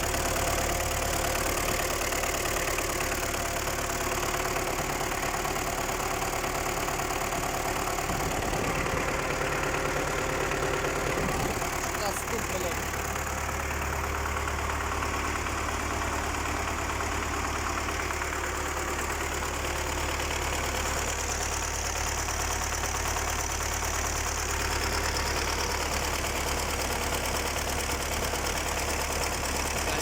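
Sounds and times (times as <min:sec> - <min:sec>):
engine idling with knocking: 0:00.0 - 0:30.0.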